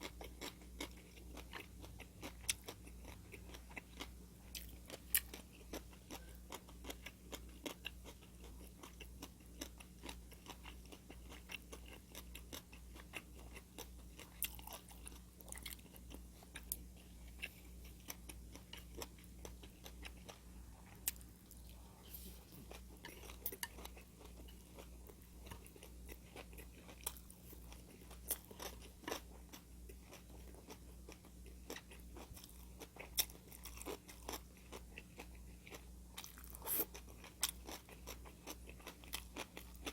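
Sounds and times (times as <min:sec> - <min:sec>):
low steady hum: 0:00.0 - 0:39.9
person chewing and crunching food: 0:00.0 - 0:39.9.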